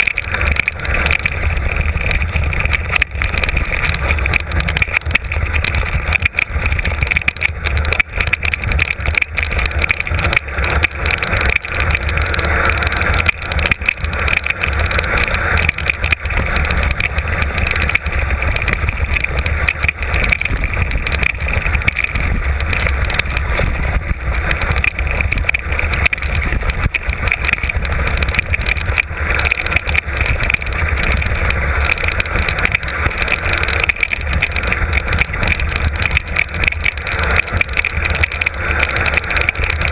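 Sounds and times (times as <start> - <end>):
bike rattling over rocks: 0.0 - 39.9
wind and tyres rumbling: 0.0 - 39.9.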